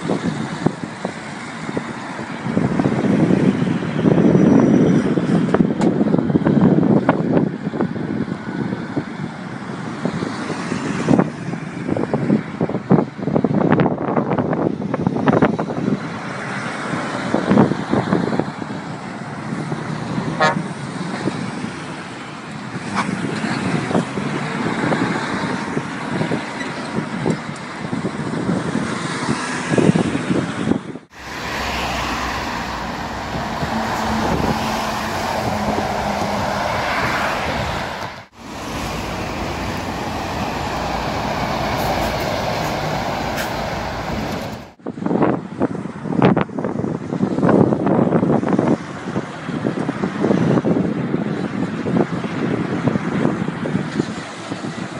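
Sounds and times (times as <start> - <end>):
lorries and cars passing: 0.0 - 54.9.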